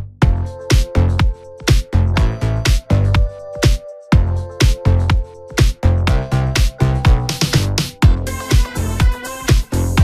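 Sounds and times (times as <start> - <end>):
electronic dance music: 0.2 - 10.0.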